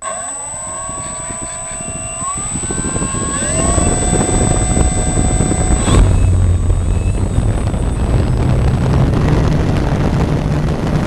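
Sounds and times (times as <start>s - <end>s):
model airplane motor whine: 0.0s - 11.0s
propeller wash rush: 0.6s - 11.0s.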